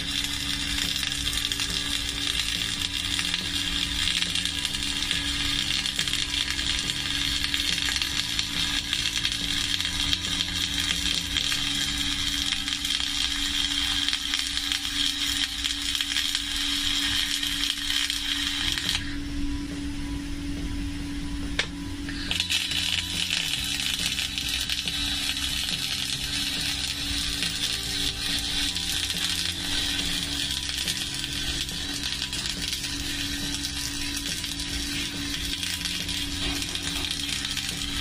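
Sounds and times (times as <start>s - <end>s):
welding arc crackling and hissing: 0.0s - 19.2s, 22.1s - 38.0s
background music: 0.0s - 38.0s.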